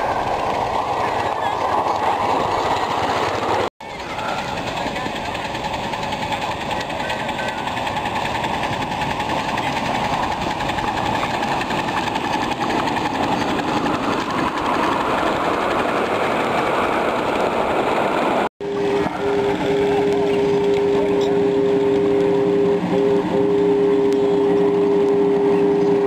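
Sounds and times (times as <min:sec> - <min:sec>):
miniature steam locomotive chuffing: 0:00.0 - 0:26.0.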